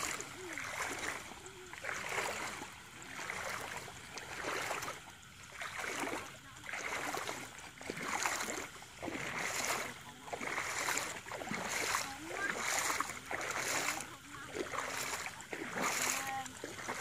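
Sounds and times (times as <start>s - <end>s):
shallow water sloshing: 0.0s - 17.0s.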